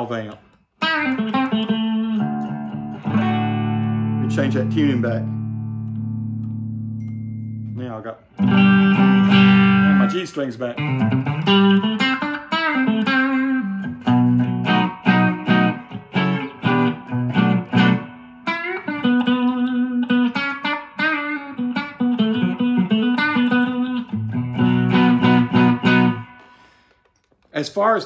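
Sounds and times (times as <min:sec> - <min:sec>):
electric guitar notes and chords: 0:00.0 - 0:27.4.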